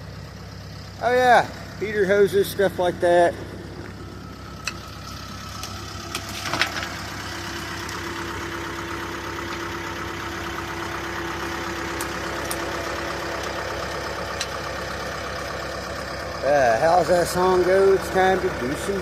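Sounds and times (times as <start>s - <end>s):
engine idling: 0.0s - 19.0s
steady whine: 1.0s - 19.0s.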